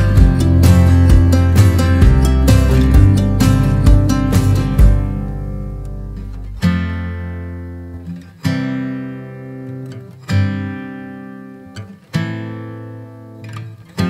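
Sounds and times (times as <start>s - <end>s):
strummed acoustic guitar chords: 0.0s - 14.0s.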